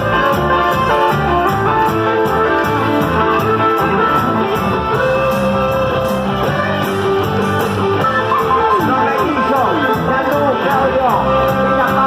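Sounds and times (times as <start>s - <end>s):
guitar melody: 0.0s - 12.0s
percussion beat: 0.0s - 12.0s.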